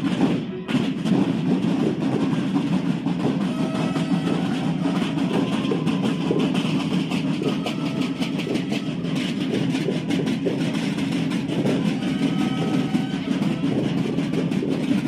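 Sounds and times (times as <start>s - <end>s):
marching drums beating: 0.0s - 15.0s.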